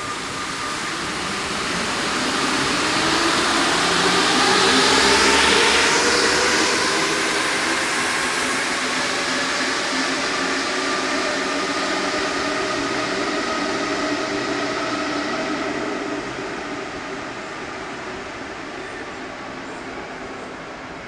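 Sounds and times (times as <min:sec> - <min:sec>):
metro train rolling rumble: 0:00.0 - 0:21.0
train whining tones: 0:00.0 - 0:21.0.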